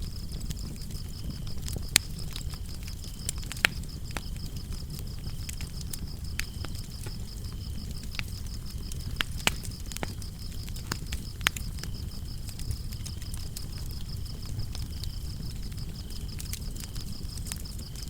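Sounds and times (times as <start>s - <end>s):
crickets chirping: 0.0s - 18.0s
lower cricket chirping: 0.0s - 18.0s
wood fire crackling and popping: 0.0s - 18.0s.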